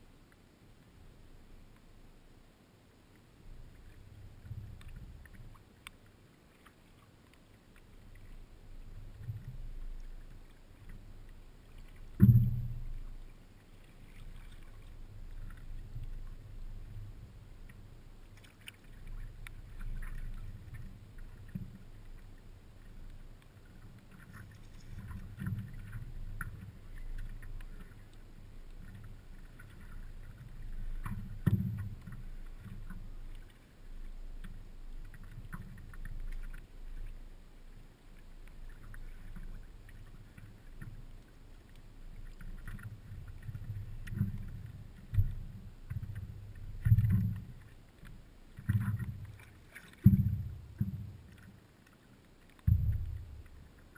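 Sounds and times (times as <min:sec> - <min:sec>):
water lapping against board: 0:03.7 - 0:37.2, 0:38.4 - 0:53.9.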